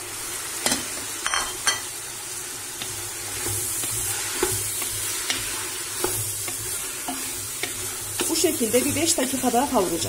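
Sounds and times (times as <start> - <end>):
vegetables sizzling in pot: 0.0 - 10.0.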